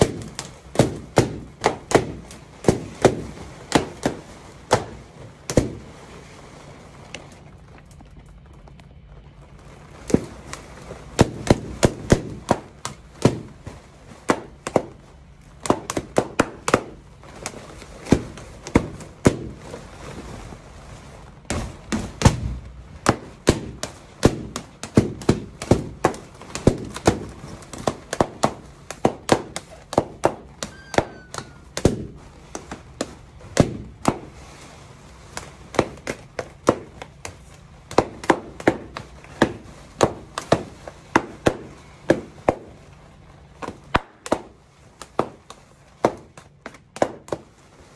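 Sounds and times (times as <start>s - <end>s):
balloons popping: 0.0s - 47.9s.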